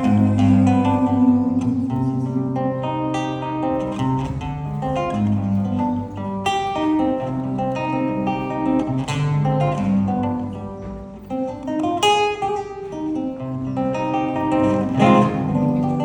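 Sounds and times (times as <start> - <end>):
acoustic guitar instrumental: 0.0 - 16.0.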